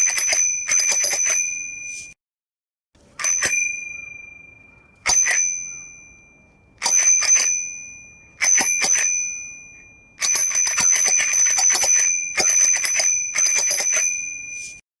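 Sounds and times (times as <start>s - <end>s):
bicycle bell ringing: 0.0s - 2.2s, 3.2s - 14.8s.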